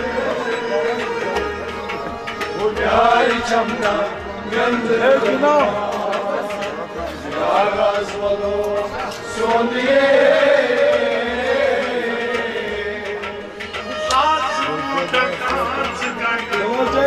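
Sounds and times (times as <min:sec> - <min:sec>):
harmonium: 0:00.0 - 0:17.0
man singing: 0:02.5 - 0:17.0.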